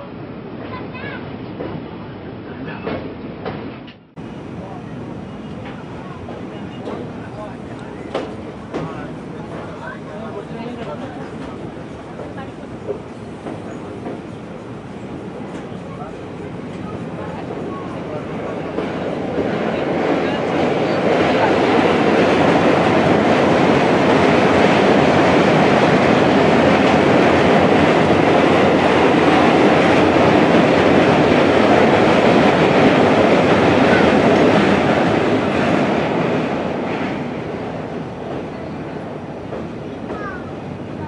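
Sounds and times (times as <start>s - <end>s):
train rumbling over steel bridge: 0.0s - 41.0s.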